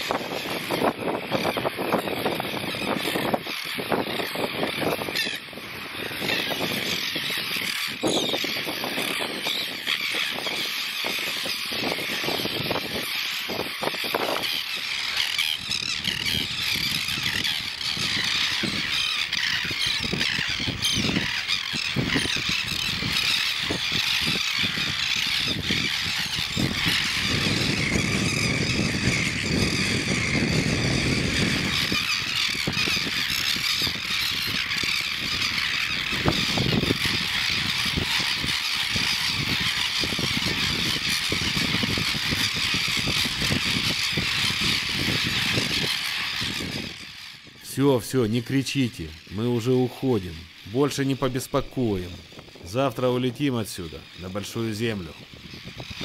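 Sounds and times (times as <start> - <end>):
colony of birds screaming: 0.0 - 56.0.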